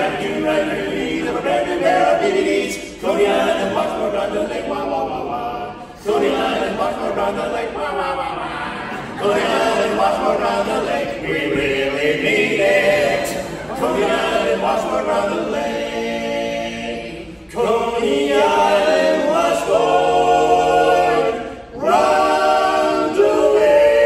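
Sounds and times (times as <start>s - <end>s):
a cappella close harmony singing: 0.0s - 24.0s.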